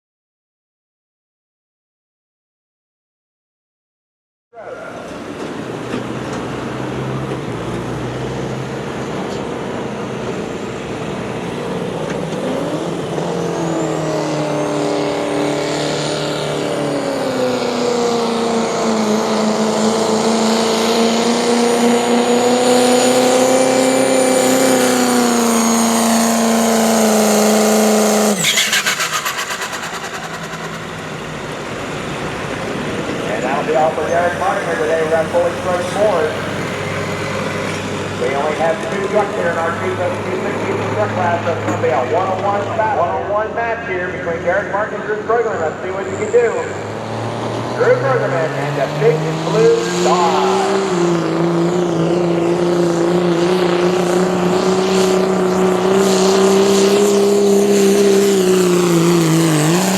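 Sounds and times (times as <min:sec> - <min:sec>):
truck engine idling and revving: 0:04.6 - 0:59.9.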